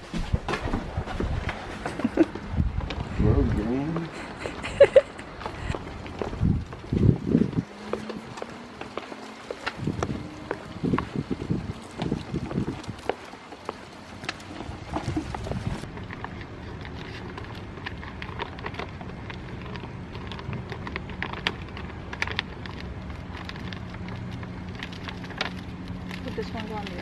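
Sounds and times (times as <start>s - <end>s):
decal sheet crackling and rustling: 0.0s - 27.0s
steady low hum: 0.0s - 27.0s.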